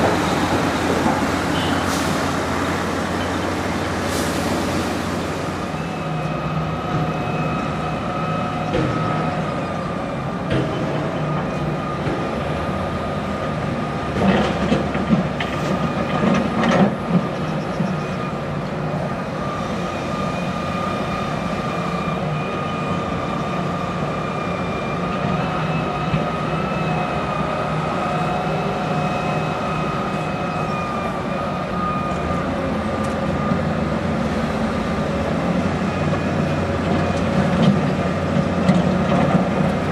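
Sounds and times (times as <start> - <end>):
excavator diesel engine whining: 0.0 - 39.9.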